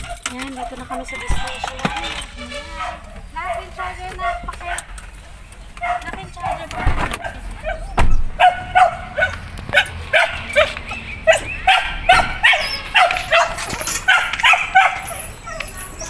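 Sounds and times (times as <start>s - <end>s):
dog barking: 1.4s - 5.0s, 5.8s - 16.0s.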